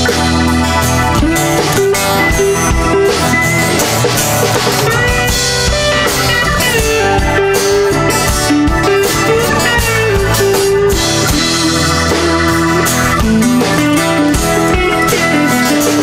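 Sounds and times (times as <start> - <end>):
acoustic guitar strumming: 0.0 - 16.0
keyboard slow melody: 0.0 - 16.0.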